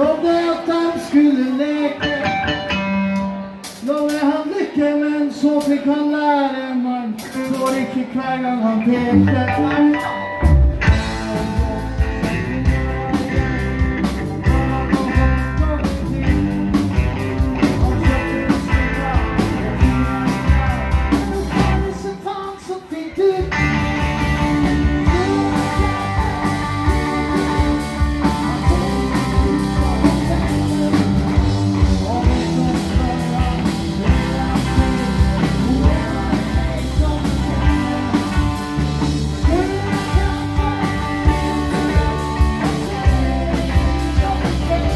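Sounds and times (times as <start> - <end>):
live blues-rock band playing: 0.0 - 5.9, 7.0 - 44.9
person singing: 0.0 - 44.9.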